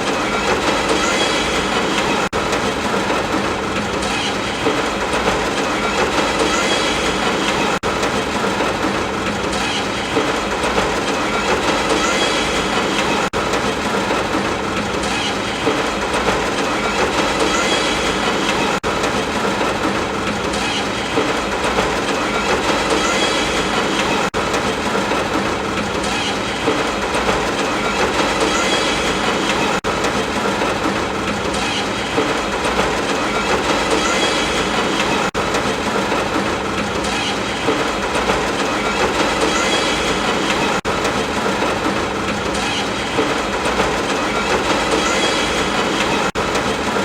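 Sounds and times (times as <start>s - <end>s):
rail clickety-clack: 0.0s - 47.0s
train running on rails: 0.0s - 47.0s.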